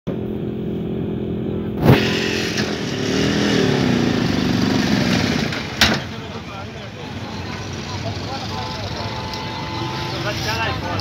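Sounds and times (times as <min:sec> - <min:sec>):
vehicle engine running: 0:00.1 - 0:11.0.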